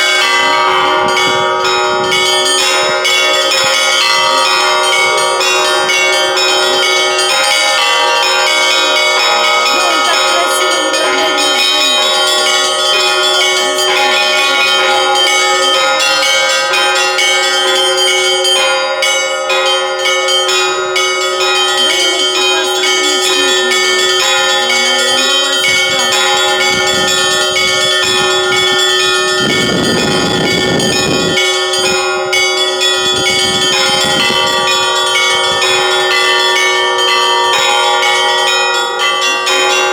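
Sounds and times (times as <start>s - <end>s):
large bells ringing: 0.0s - 39.9s
small bells struck quickly: 0.0s - 39.9s.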